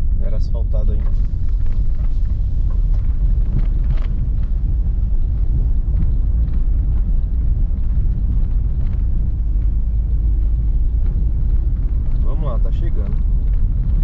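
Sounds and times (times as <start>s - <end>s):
car tyres rumbling on dirt road: 0.0s - 14.0s.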